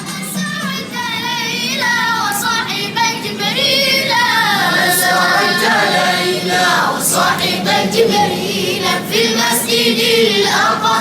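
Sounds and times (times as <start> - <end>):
vocal ensemble singing in harmony: 0.0 - 11.0.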